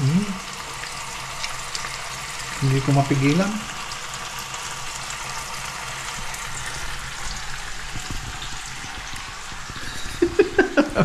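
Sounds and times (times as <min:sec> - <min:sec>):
mushrooms sizzling in a pan: 0:00.0 - 0:11.0.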